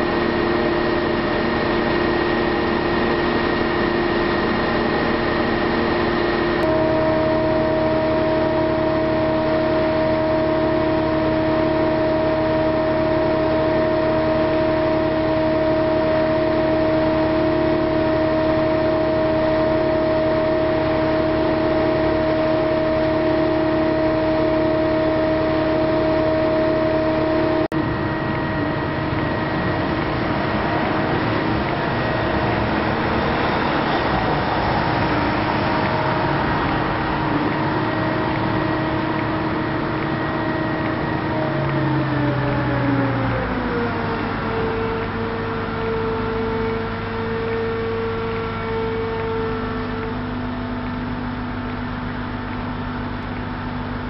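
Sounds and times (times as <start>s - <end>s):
constant humming tones: 0.0s - 54.0s
diesel engine running: 0.0s - 54.0s.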